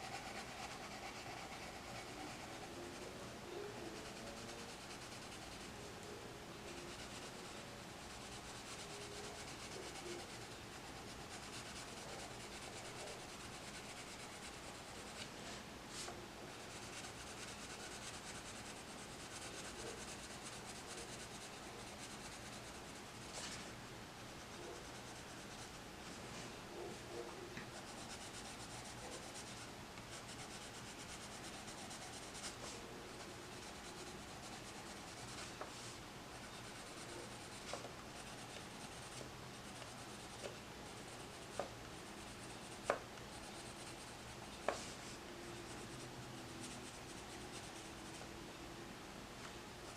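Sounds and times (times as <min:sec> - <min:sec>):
pencil scratching on paper: 0:00.0 - 0:23.6, 0:24.4 - 0:25.8, 0:26.8 - 0:48.2.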